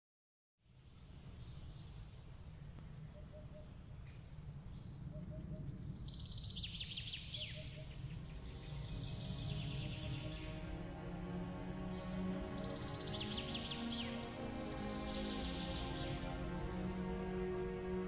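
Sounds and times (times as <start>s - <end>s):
birds chirping: 1.9s - 18.0s.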